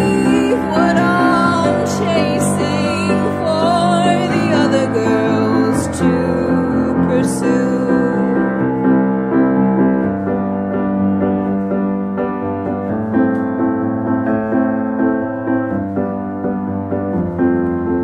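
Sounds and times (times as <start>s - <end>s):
slow keyboard chords: 0.0s - 18.0s.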